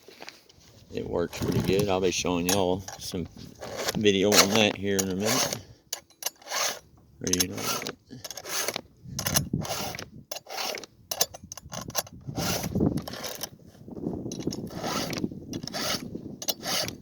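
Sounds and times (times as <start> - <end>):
hand file rasping on chain: 2.5 - 13.6, 14.3 - 17.0.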